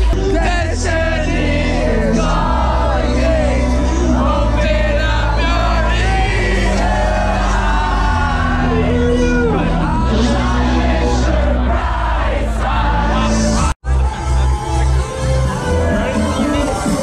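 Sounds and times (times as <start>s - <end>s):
crowd singing and shouting: 0.0s - 17.0s
loud live music: 0.0s - 17.0s.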